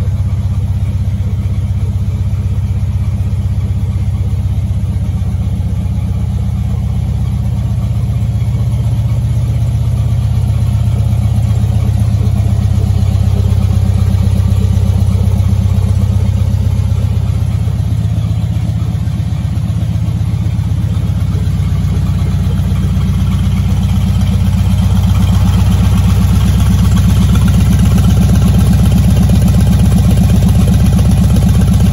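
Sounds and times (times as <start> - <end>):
small car engine idling: 0.0 - 31.9.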